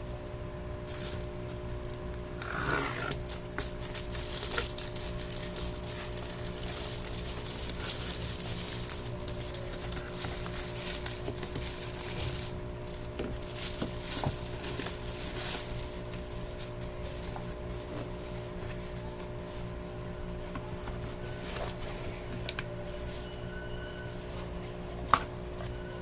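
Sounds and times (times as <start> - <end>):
steady low hum: 0.0 - 26.0
plastic and cardboard crinkling: 0.9 - 26.0.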